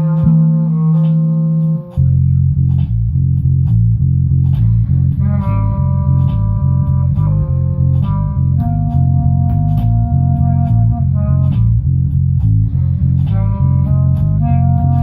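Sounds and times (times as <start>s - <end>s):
bass guitar notes: 0.0s - 15.0s.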